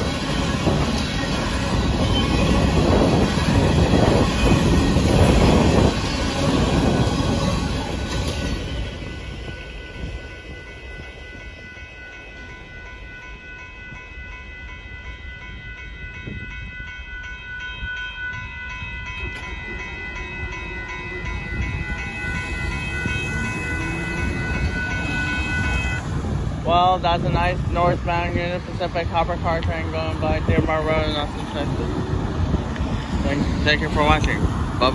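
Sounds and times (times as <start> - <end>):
railroad crossing bell ringing: 0.0 - 34.5
freight train rumbling on rails: 0.0 - 34.9.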